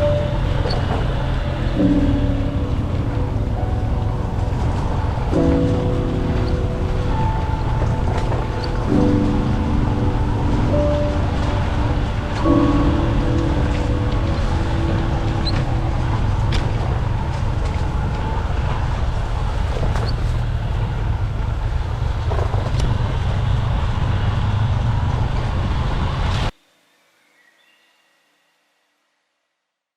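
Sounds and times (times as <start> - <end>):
road and wind noise: 0.0 - 26.6.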